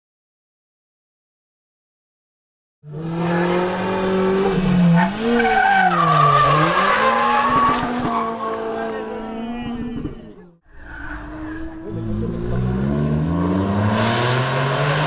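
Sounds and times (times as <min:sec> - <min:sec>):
rally car engine under load: 0:02.8 - 0:15.0.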